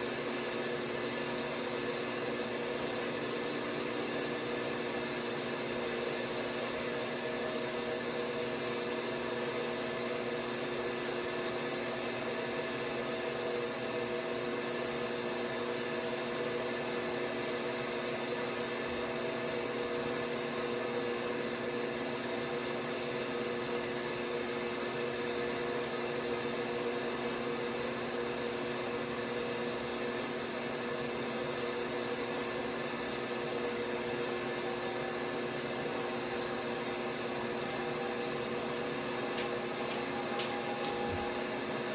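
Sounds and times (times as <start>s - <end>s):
washing machine motor humming: 0.0s - 17.4s, 20.0s - 41.9s.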